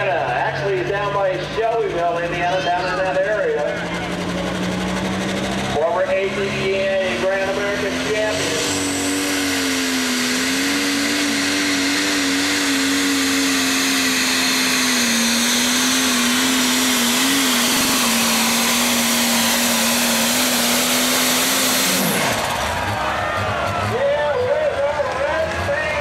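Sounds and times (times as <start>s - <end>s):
tractor diesel engine revving high: 0.0s - 26.0s.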